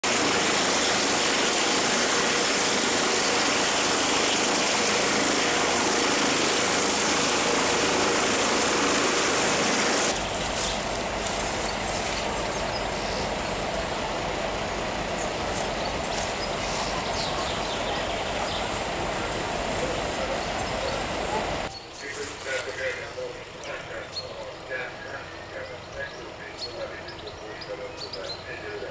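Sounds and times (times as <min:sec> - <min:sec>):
helicopter engine and rotors: 0:00.0 - 0:28.9
steady low hum: 0:00.0 - 0:28.9.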